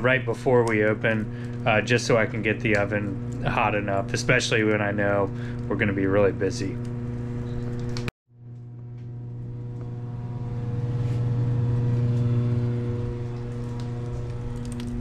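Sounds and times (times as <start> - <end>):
low electrical machine hum: 0.0 - 15.0.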